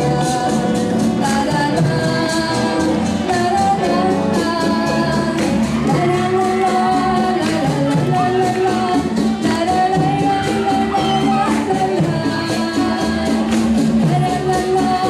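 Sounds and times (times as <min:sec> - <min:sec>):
song with percussion beat: 0:00.0 - 0:15.0.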